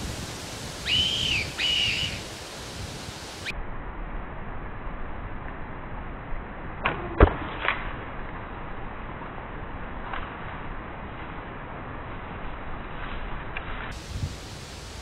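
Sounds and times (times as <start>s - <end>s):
outdoor noise: 0.0s - 15.0s.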